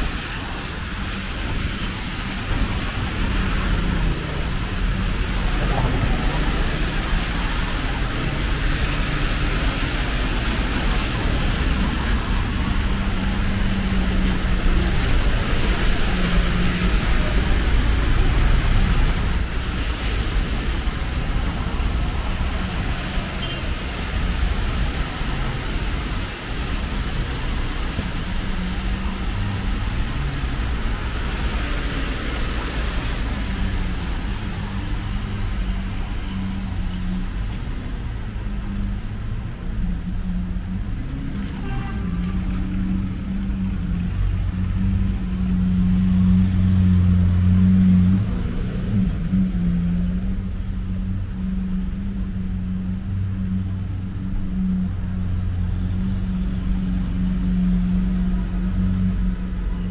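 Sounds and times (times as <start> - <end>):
vehicles passing with tyre hiss: 0.0 - 59.9.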